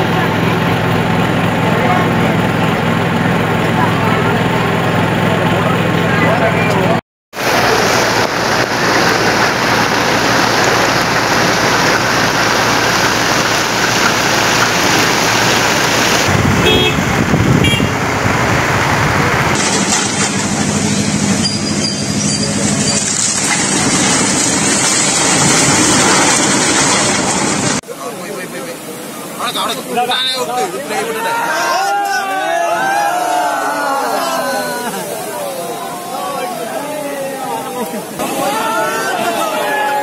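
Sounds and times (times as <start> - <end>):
floodwater roaring: 0.0 - 40.0.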